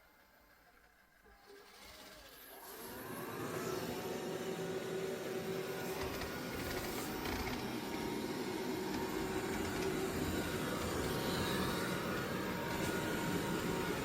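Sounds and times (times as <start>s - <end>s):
robot vacuum humming: 0.9s - 14.0s.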